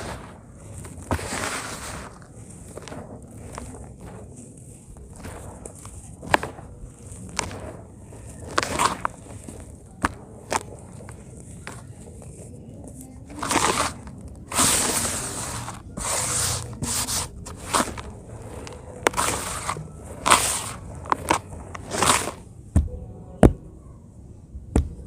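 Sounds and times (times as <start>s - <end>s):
gritty cement crunching: 0.0s - 22.6s.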